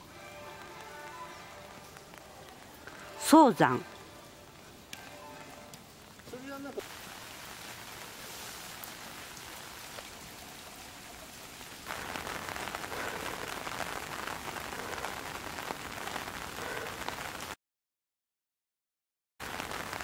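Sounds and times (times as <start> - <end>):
rain pattering: 0.0 - 17.6, 19.4 - 20.0.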